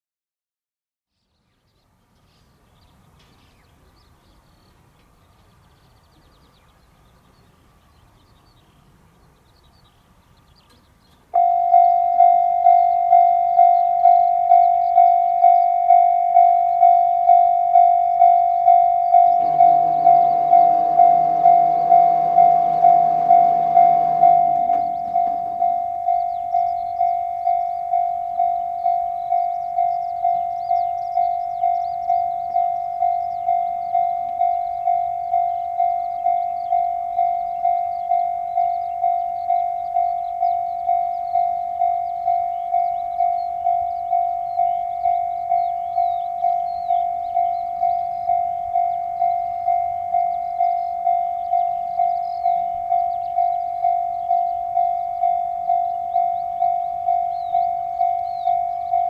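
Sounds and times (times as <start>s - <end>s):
railroad crossing alarm bell: 11.2s - 59.0s.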